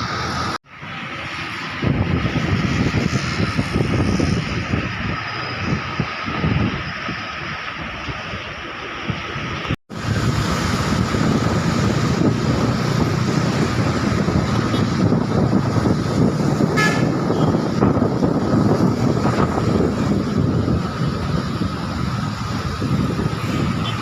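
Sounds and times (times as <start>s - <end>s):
road traffic rumble: 0.0s - 24.0s
wind buffeting microphone: 0.0s - 24.0s.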